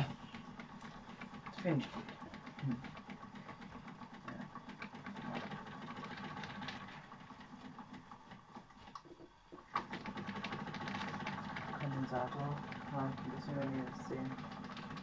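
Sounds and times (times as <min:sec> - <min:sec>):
toy steam engine chuffing: 0:00.0 - 0:08.2, 0:10.0 - 0:15.0.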